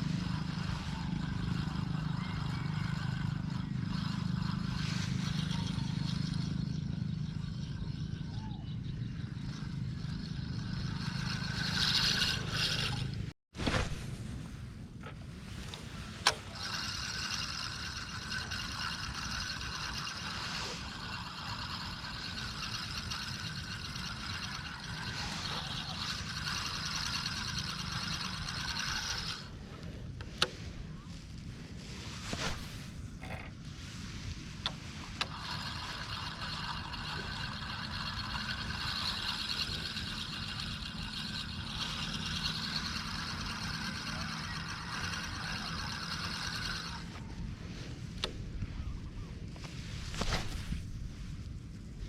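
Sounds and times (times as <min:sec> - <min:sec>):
spinning reel gears whirring: 0:00.0 - 0:13.3, 0:15.5 - 0:30.9, 0:34.4 - 0:48.8
engine hum: 0:00.0 - 0:52.0.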